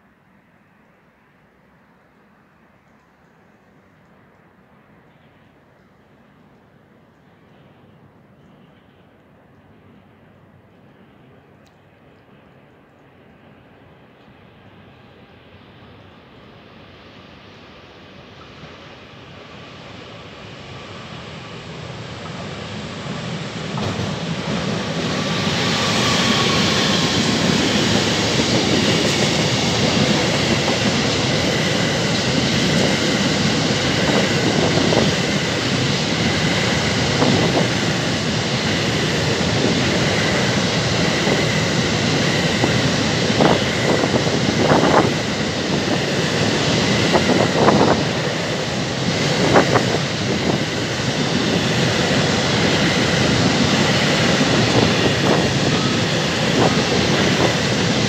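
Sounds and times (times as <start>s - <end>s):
freight train wheels rumbling on rails: 0.6s - 58.0s.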